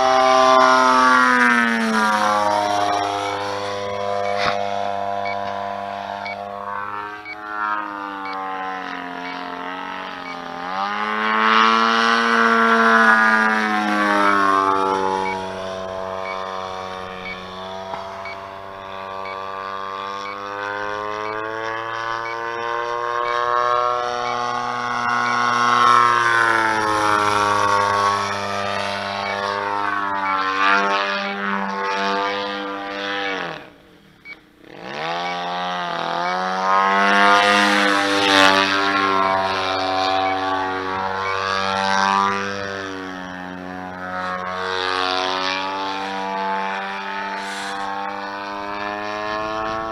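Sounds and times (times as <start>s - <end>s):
model plane engine in flight: 0.0s - 49.9s.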